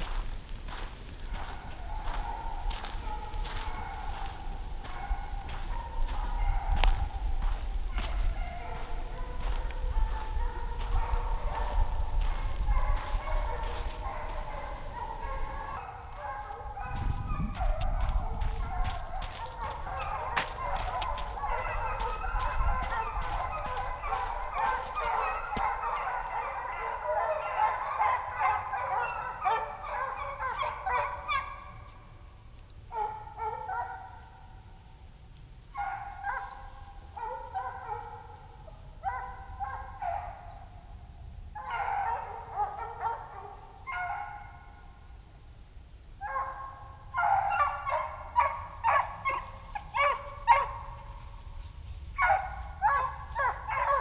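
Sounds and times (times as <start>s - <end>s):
hounds baying: 0.0s - 32.0s, 32.9s - 34.6s, 35.7s - 40.8s, 41.5s - 45.0s, 46.2s - 54.0s.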